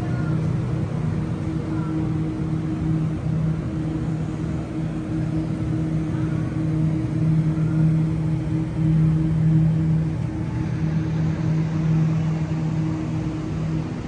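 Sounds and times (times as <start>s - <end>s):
electric train equipment humming: 0.0s - 14.0s.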